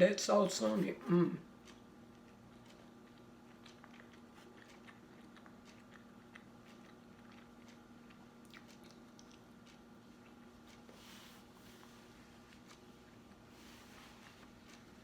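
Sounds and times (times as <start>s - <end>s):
faint steady hum: 0.0s - 15.0s
chewing crispy food: 0.8s - 15.0s.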